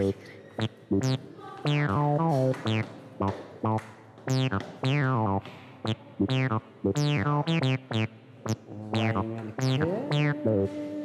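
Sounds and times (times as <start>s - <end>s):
synthesizer music: 0.0s - 5.4s, 6.2s - 10.7s.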